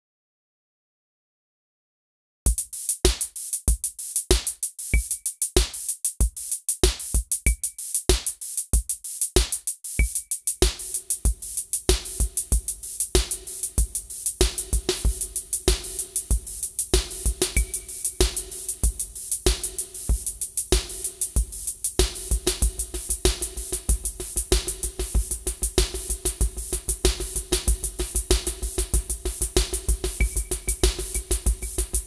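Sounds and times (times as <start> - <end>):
crisp hi-hats: 2.5 - 32.0
drum machine beat: 2.5 - 32.0.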